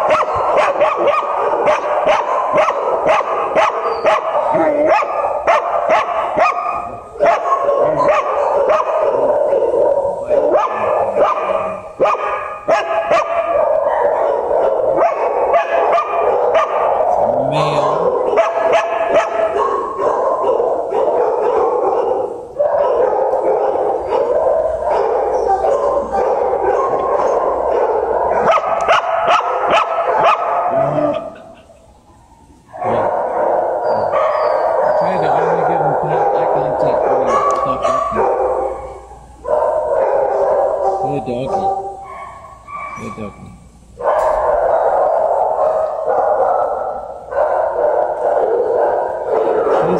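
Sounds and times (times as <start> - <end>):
many dogs barking: 0.0 - 49.9.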